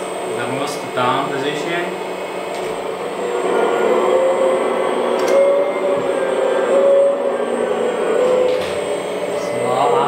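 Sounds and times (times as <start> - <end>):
hydraulic pump whine: 0.0 - 10.0.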